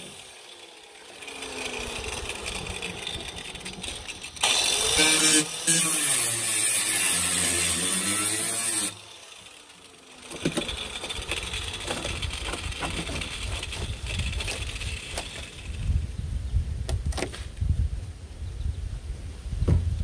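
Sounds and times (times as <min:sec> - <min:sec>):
angle grinder grinding metal: 0:00.0 - 0:16.0.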